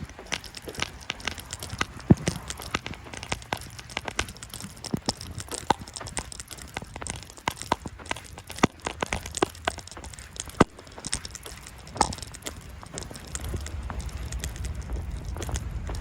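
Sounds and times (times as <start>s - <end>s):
footsteps crunching through snow: 0.0s - 16.0s.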